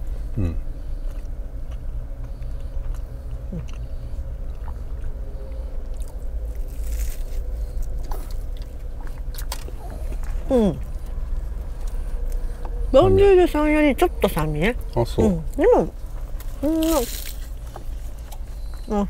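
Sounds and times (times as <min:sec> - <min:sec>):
person chewing crunchy pastry: 0:00.0 - 0:13.2, 0:14.8 - 0:18.9
low steady hum: 0:00.0 - 0:19.0.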